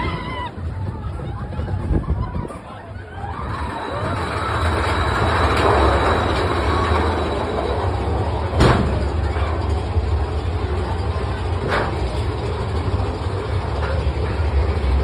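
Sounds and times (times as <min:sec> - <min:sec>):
roller coaster cars rumbling: 0:00.0 - 0:15.0.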